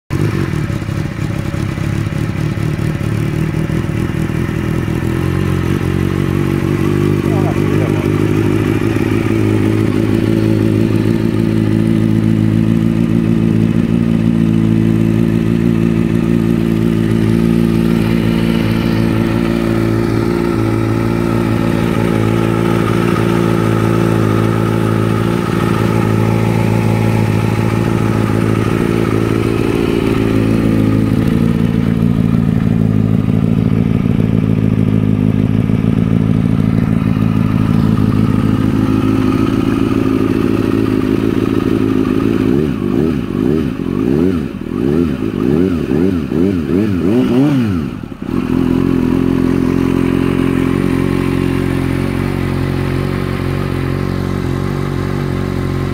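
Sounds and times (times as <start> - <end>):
motorcycle engine idling: 0.1 - 55.9.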